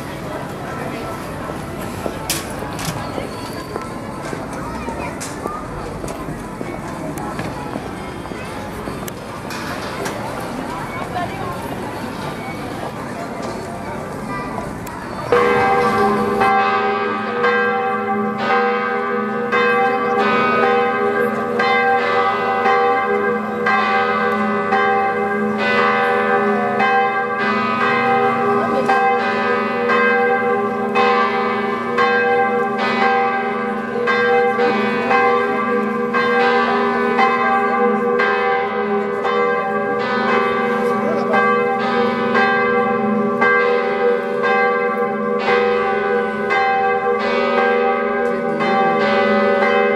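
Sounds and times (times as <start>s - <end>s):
church bells pealing: 0.0s - 49.9s.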